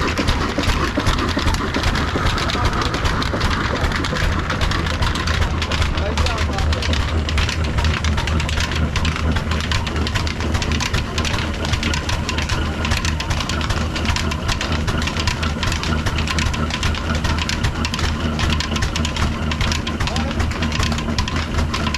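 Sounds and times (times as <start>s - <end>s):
diesel engine knocking clatter: 0.0s - 21.9s.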